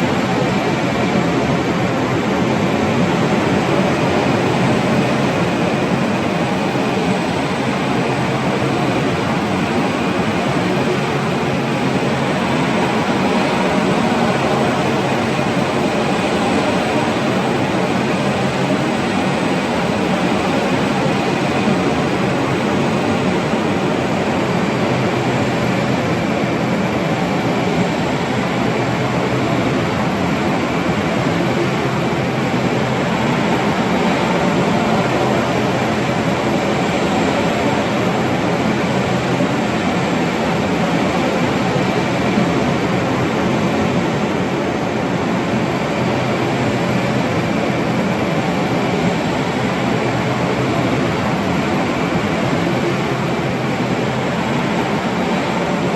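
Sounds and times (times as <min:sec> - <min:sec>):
jet engine noise: 0:00.0 - 0:55.9.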